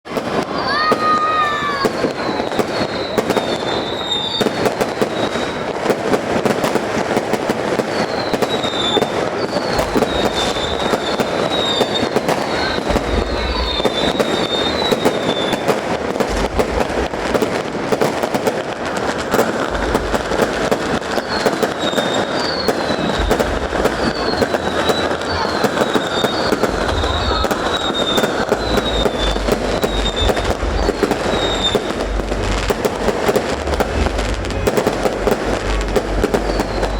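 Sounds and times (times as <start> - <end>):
fireworks crackling: 0.0 - 36.9
deep fireworks booms: 0.1 - 36.9
fireworks whistles: 0.1 - 36.9.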